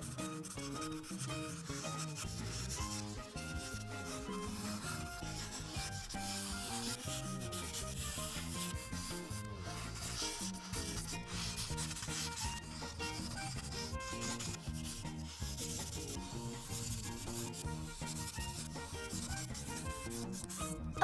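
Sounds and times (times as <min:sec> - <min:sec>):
marker scratching on paper: 0:00.0 - 0:21.0.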